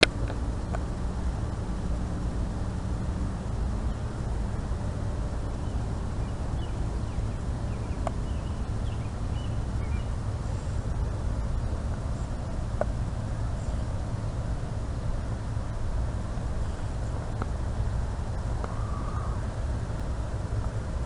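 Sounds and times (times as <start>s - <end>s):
low rumbling noise: 0.0s - 21.0s.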